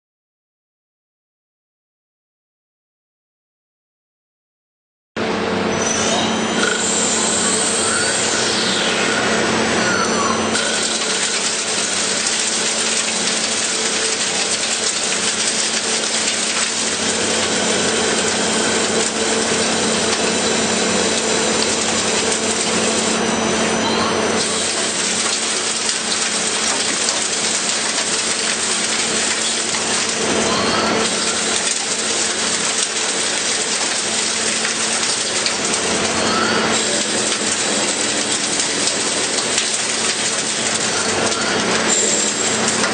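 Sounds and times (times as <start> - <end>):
cnc machine running: 5.2 - 42.9.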